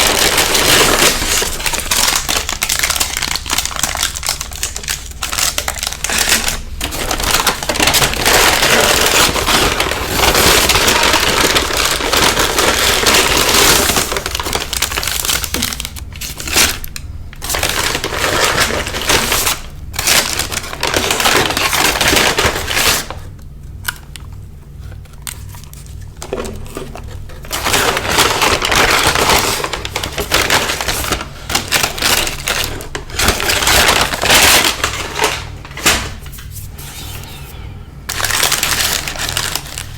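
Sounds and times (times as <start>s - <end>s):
paper packaging crinkling: 0.0s - 39.9s.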